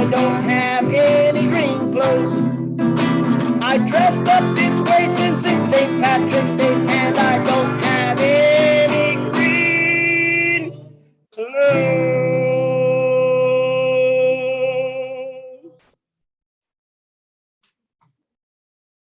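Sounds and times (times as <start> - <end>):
guitar: 0.0 - 15.8
person singing: 0.0 - 15.8.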